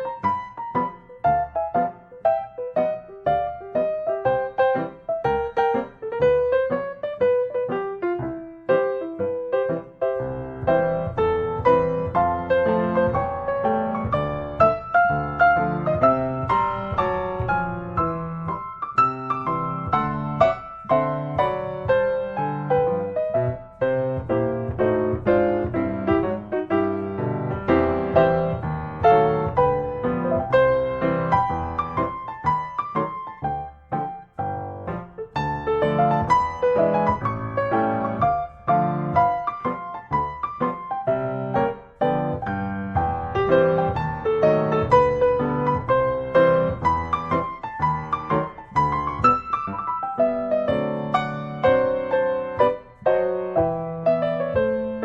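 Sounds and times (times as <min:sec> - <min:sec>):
piano melody: 0:00.0 - 0:55.0.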